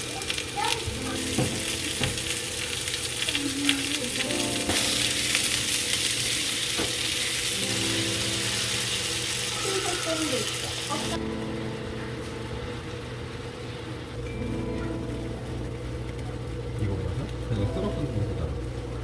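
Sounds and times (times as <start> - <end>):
food sizzling in a pan: 0.0 - 16.7.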